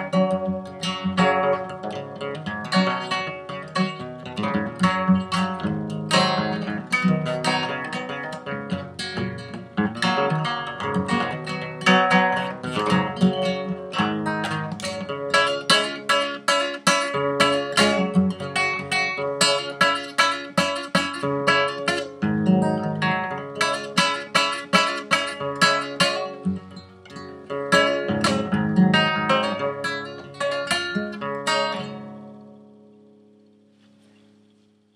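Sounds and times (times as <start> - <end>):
classical acoustic guitar: 0.0 - 34.9.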